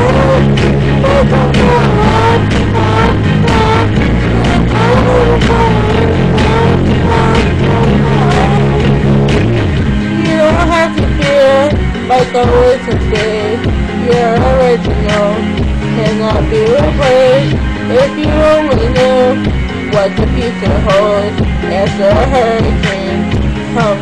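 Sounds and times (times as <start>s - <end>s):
pop song with full band: 0.0s - 24.0s.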